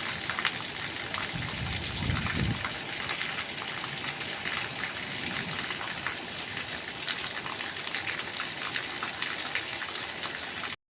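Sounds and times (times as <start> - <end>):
patter of falling water: 0.0 - 10.8.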